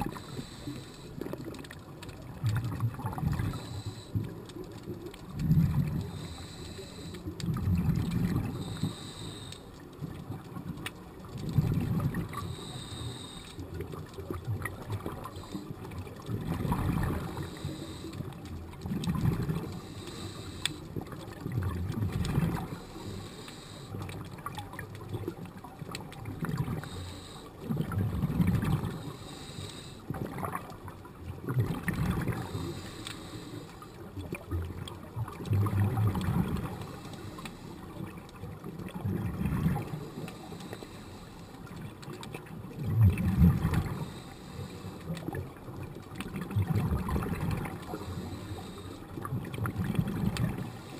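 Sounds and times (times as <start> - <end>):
bubbles exhaled underwater: 0.0 - 0.6, 1.2 - 27.0, 27.6 - 37.1, 37.9 - 40.7, 41.6 - 50.9
faint regulator hiss: 0.0 - 31.4, 32.1 - 35.5, 36.1 - 42.8, 43.6 - 46.5, 47.3 - 50.9.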